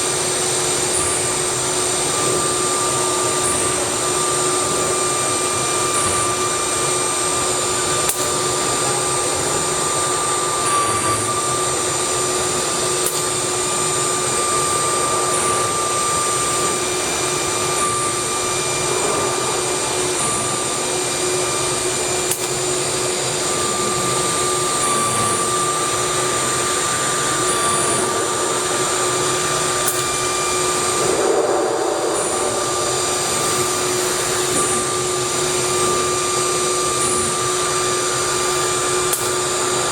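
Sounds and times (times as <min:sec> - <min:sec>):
continuous rushing noise: 0:00.0 - 0:39.9
router spindle whine: 0:00.0 - 0:39.9.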